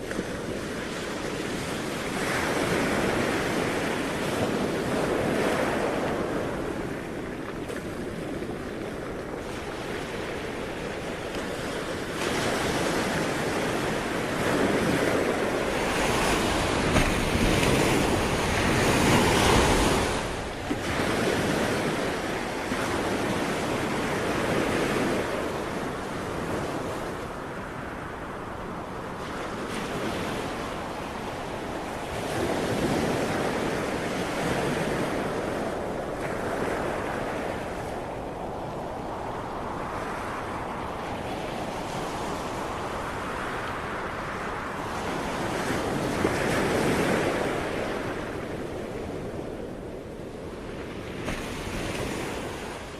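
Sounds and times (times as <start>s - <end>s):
sea waves breaking on shore: 0.0s - 52.9s.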